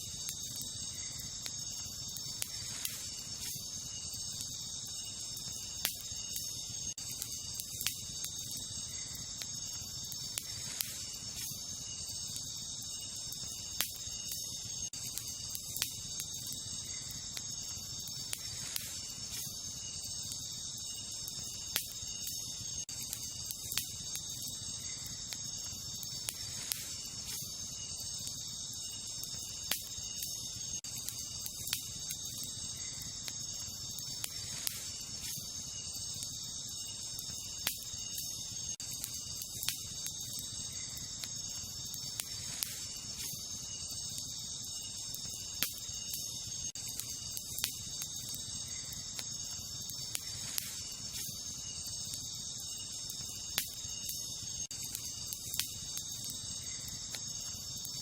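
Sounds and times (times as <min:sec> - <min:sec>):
campfire crackling and popping: 0:00.0 - 0:58.0
night insects chorus: 0:00.0 - 0:58.0.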